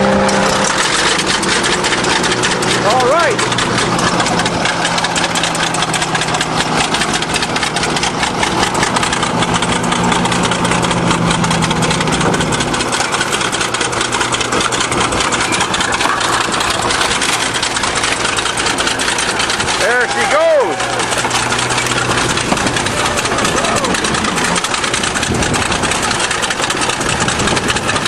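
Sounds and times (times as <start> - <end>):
bulldozer diesel engine clattering: 0.0 - 28.0.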